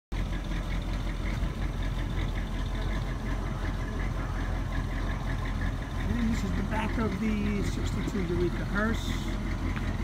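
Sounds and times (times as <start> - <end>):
car engine idling: 0.1 - 10.0
fast even engine ticking: 0.1 - 10.0.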